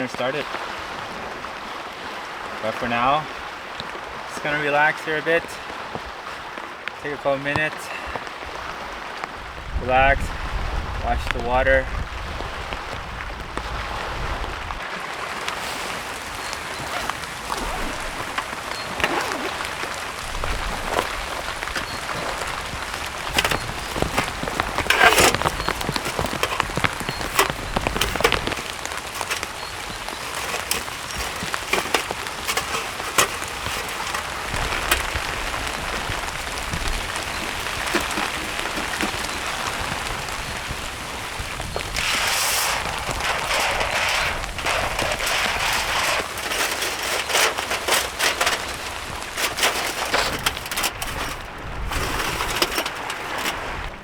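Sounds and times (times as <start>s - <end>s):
rain falling: 0.0s - 54.0s
raindrops ticking close by: 0.0s - 54.0s.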